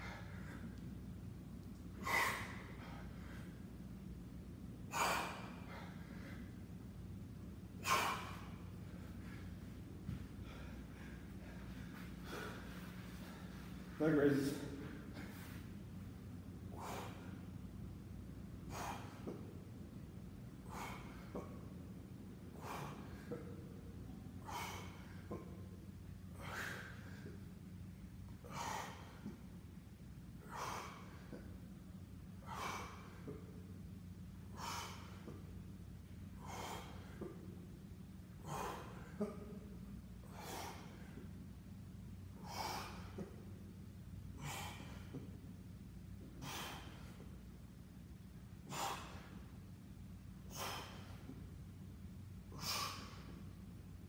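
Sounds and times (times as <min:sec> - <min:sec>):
man breathing: 0:00.0 - 0:04.2, 0:04.8 - 0:49.8, 0:50.4 - 0:51.7, 0:52.4 - 0:53.7
steady low hum: 0:00.0 - 0:54.0.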